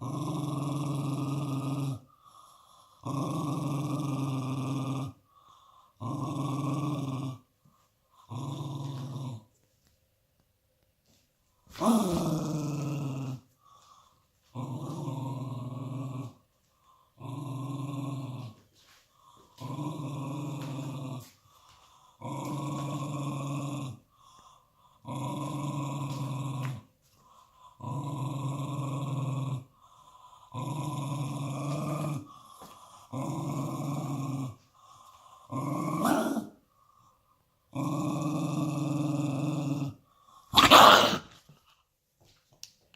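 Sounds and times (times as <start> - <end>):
dog growling: 0.0 - 7.5, 8.1 - 9.6, 11.7 - 36.6, 37.7 - 41.4.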